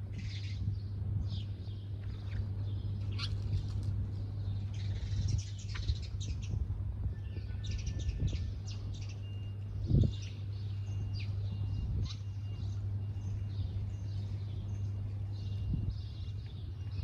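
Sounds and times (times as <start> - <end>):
low hum: 0.0 - 17.0
small birds chirping: 0.0 - 17.0.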